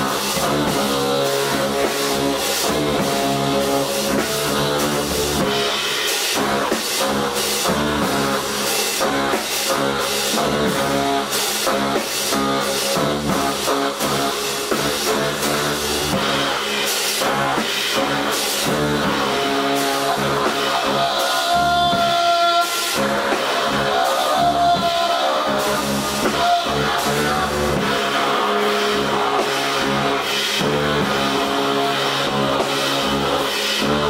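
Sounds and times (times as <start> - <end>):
baritone saxophone: 0.0 - 34.0
drum kit with cymbal hits: 0.0 - 34.0
trombone: 0.0 - 34.0.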